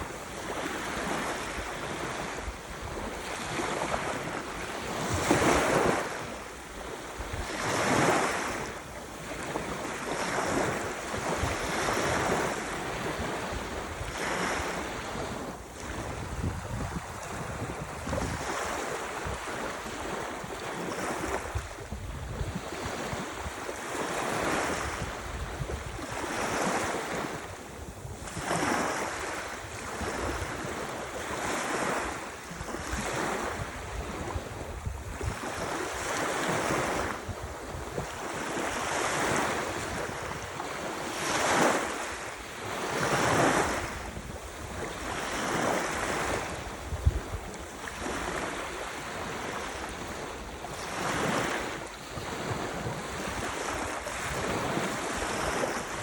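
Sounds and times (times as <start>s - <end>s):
waves breaking: 0.0s - 56.0s
wind rumble on microphone: 0.0s - 56.0s.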